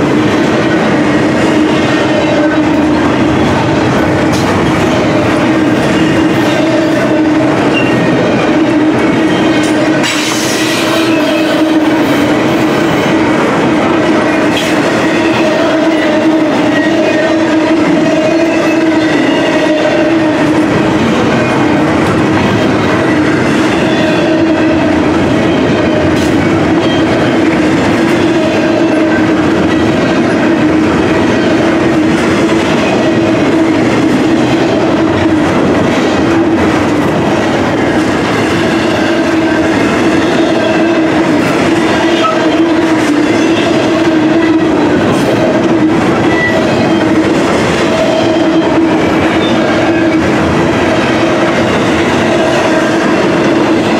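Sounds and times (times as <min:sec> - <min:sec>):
clickety-clack over rail joints: 0:00.0 - 0:53.9
train wheels on rails: 0:00.0 - 0:53.9.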